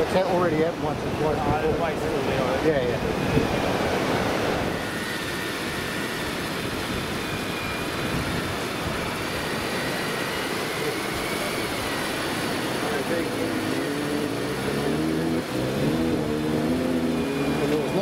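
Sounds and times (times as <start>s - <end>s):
electric fishing reel whine: 0.0s - 18.0s
wind: 0.0s - 18.0s.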